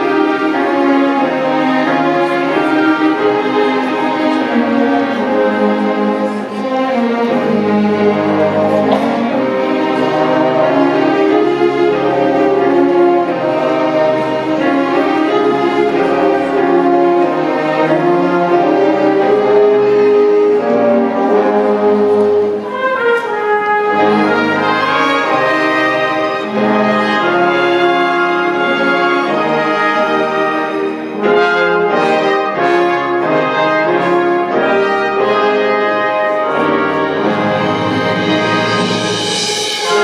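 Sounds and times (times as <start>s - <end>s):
brass chords and melody: 0.0s - 40.0s
orchestra playing: 0.0s - 40.0s.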